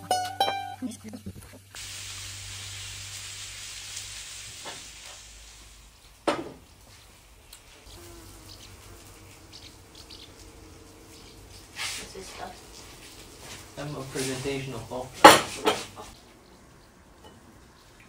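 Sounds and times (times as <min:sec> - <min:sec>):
meat sizzling on grill: 0:01.7 - 0:16.2.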